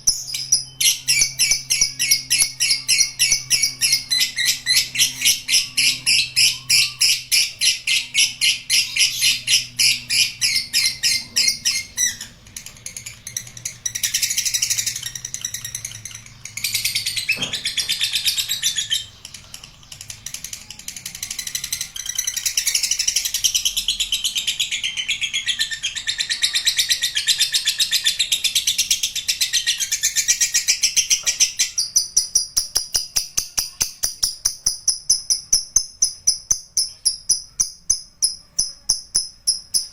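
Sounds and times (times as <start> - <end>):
lovebird chattering: 0.0 - 39.9.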